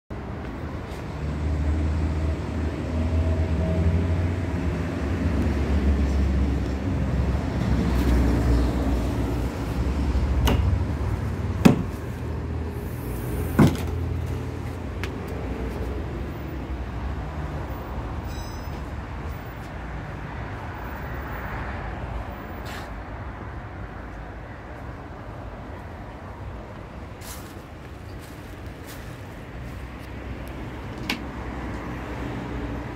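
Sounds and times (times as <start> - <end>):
vehicle engine rumbling: 0.2 - 32.9.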